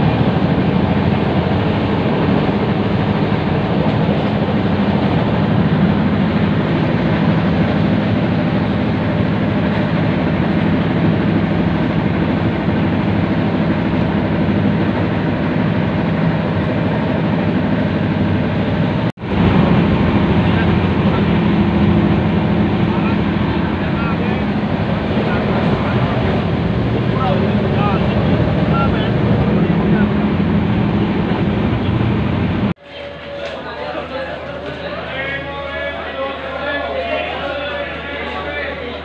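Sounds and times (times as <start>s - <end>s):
train running noise: 0.0s - 39.0s.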